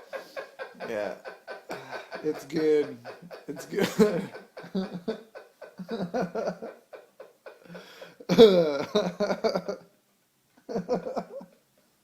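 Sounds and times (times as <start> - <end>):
man laughing: 0.0 - 9.8, 10.7 - 11.5.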